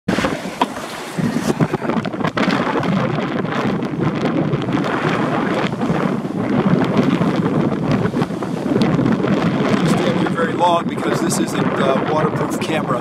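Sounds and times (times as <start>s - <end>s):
water splashing along hull: 0.1s - 13.0s
wind buffeting microphone: 0.1s - 13.0s.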